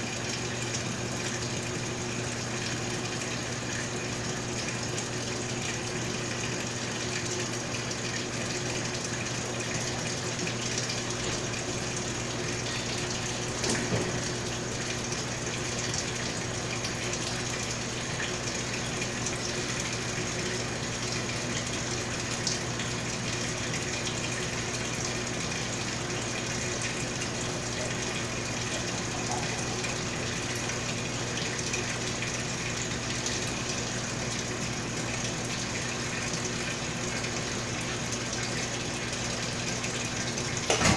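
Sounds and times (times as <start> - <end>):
washing machine low hum: 0.0 - 40.9
water rushing into tub: 0.0 - 40.9.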